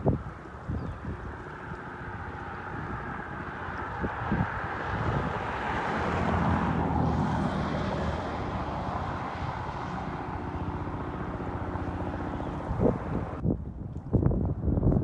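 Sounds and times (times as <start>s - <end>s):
creek water rushing: 0.0s - 13.4s
wind on microphone: 0.0s - 15.0s
vehicle passing: 0.1s - 13.4s.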